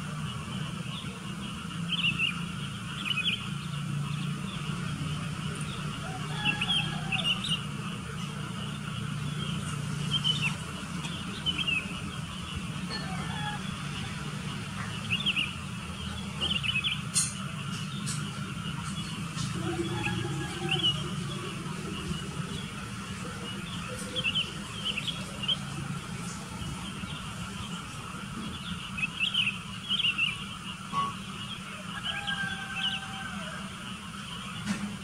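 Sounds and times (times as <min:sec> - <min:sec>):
bulbuls chirping: 0:00.0 - 0:35.0.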